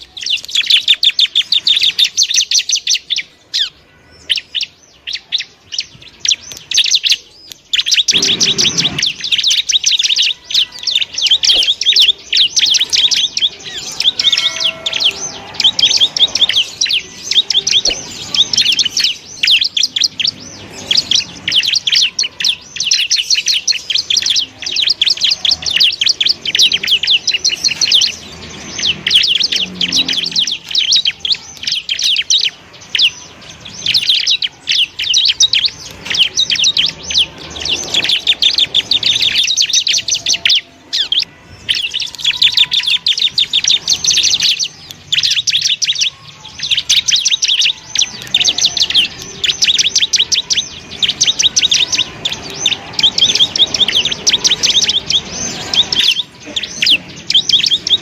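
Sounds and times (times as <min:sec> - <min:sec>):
bird singing high trills: 0:00.0 - 0:58.0.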